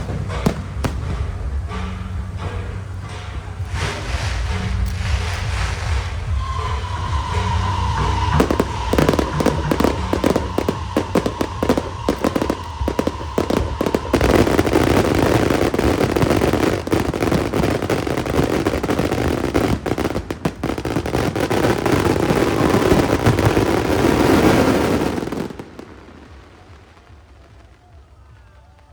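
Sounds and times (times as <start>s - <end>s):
fireworks cracking and banging: 0.0s - 28.9s.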